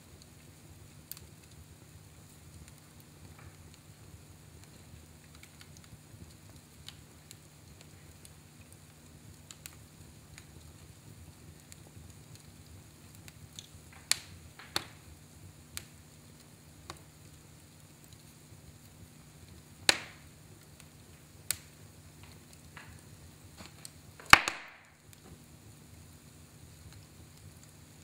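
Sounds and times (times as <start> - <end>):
fire crackling in fireplace: 0.0 - 28.0
fire popping: 0.0 - 28.0.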